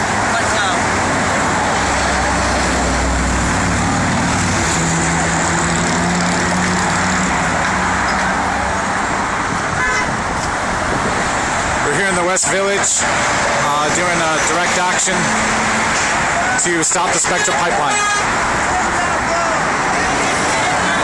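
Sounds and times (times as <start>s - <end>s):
heavy engine noise: 0.0s - 21.0s
urban traffic: 0.0s - 21.0s.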